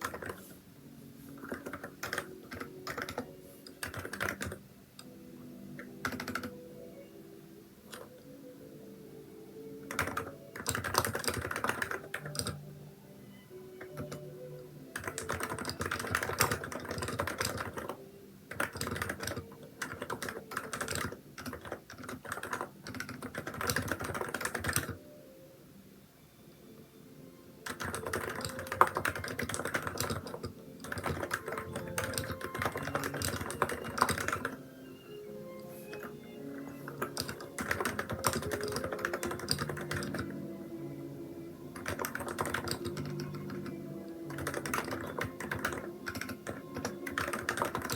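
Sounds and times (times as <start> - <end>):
keyboard typing: 0.0 - 0.6, 1.2 - 6.7, 7.9 - 8.4, 9.8 - 12.7, 13.7 - 25.1, 27.6 - 34.8, 35.6 - 40.6, 41.7 - 47.9
soft background music: 0.0 - 47.9.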